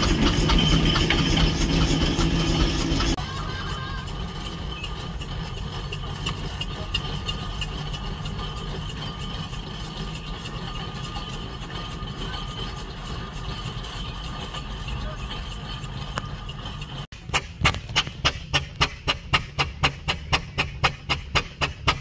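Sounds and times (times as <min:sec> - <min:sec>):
heavy engine idling: 0:00.0 - 0:22.0.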